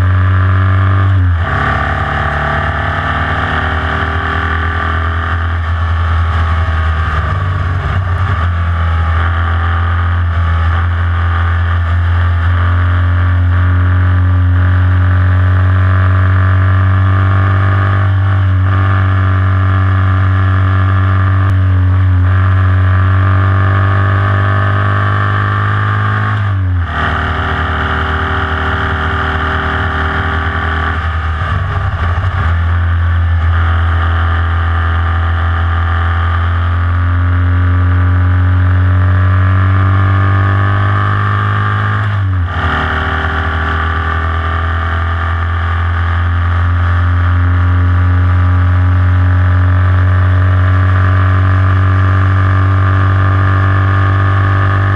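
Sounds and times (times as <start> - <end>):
racing engine running hard: 0.0 - 54.9.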